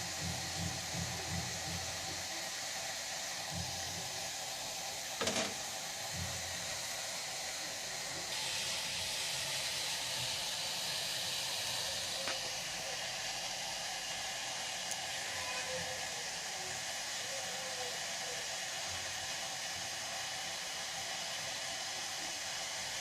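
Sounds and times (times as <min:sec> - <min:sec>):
steady hissing: 0:00.0 - 0:23.0.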